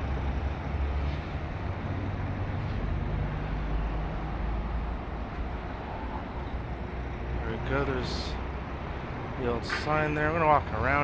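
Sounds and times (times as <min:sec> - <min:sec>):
city hum: 0:00.0 - 0:11.0
road traffic rumble: 0:00.0 - 0:11.0.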